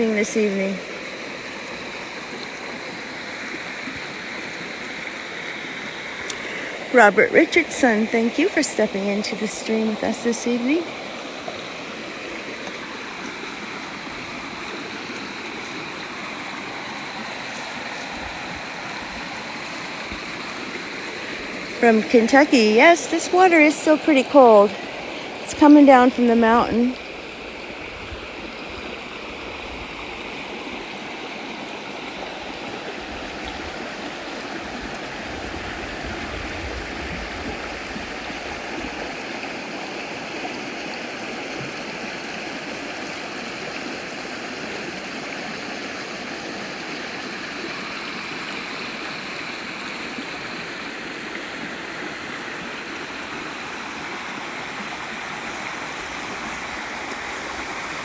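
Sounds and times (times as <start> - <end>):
river flowing: 0.0 - 58.0.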